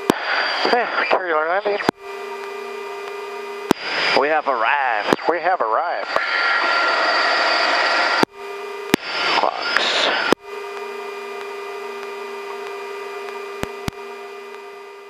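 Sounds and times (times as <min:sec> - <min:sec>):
helicopter cockpit noise: 0:00.0 - 0:15.0
steady hum with tones: 0:00.0 - 0:15.0.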